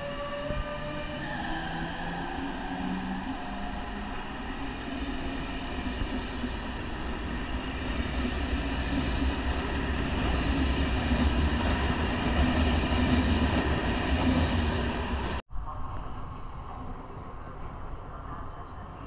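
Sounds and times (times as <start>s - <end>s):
train running on rails: 0.0s - 19.0s.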